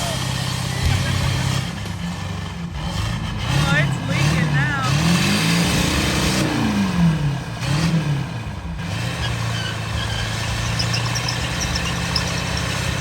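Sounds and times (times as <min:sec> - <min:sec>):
truck engine revving and idling: 0:00.0 - 0:13.0.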